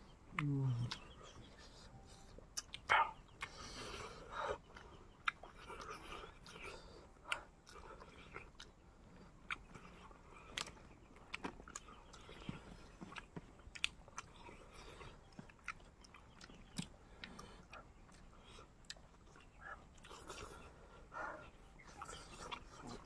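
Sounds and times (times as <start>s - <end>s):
person chewing food: 0.3s - 23.0s.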